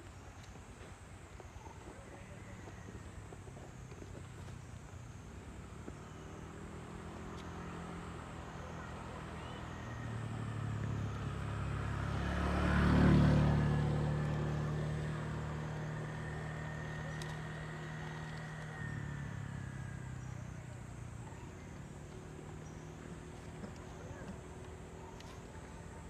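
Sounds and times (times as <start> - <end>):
motor vehicle passing: 0.0 - 26.0.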